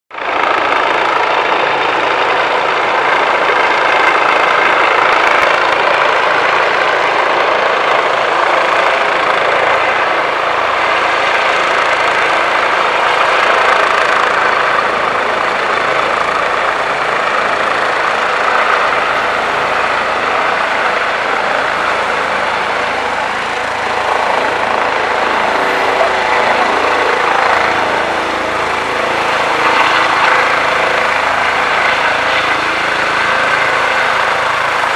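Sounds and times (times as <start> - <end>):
helicopter rotor and turbine whine: 0.1 - 34.9.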